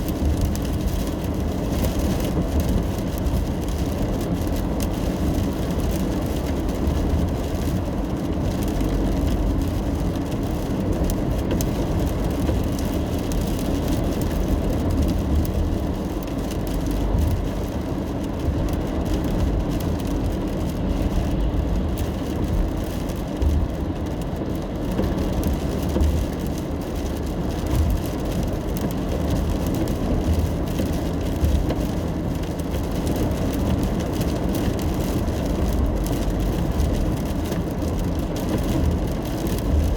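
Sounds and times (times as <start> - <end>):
rain hitting car: 0.0 - 39.9
tyre and engine rumble: 0.0 - 39.9.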